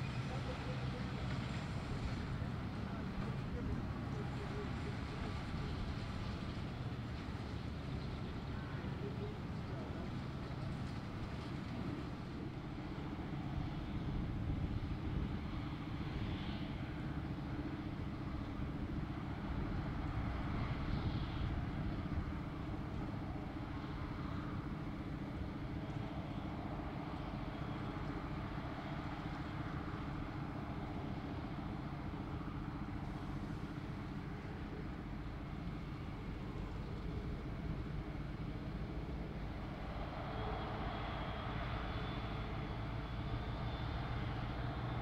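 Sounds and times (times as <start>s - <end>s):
deep machinery drone: 0.0s - 45.0s.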